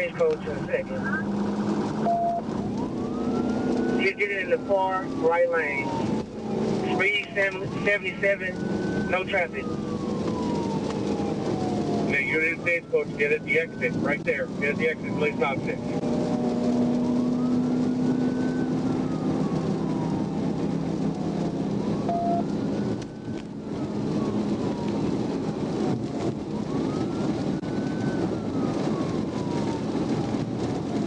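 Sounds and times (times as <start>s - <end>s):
police siren wailing: 0.0s - 31.0s
rushing noise of moving car: 0.0s - 31.0s.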